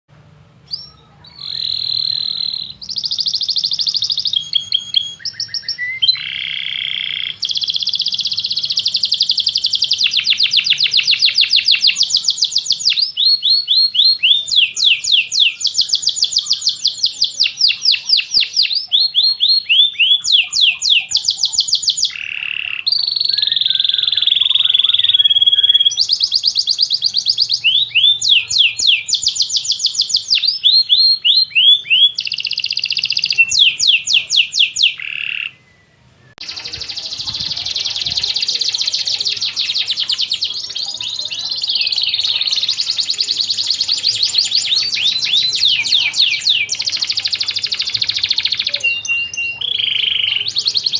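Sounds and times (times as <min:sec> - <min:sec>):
canary singing trills: 0:00.6 - 0:50.9.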